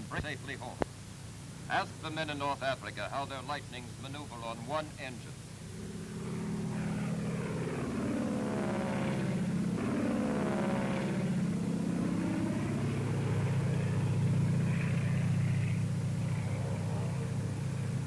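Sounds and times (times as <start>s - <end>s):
aircraft engines droning: 0.0s - 18.0s.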